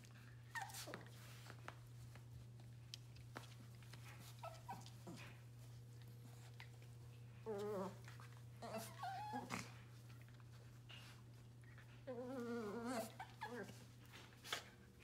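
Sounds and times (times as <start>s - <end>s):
puppies play-growling: 0.0s - 15.0s.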